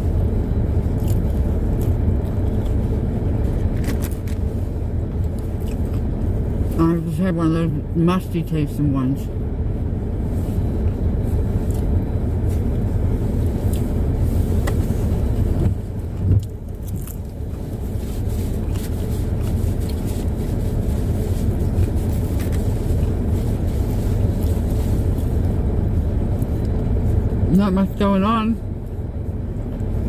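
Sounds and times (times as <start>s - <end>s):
car cabin rumble: 0.0s - 30.0s.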